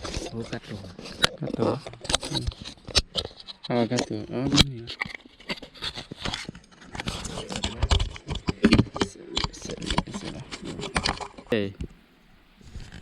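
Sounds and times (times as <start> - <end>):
camera case handling noise: 0.0 - 11.6.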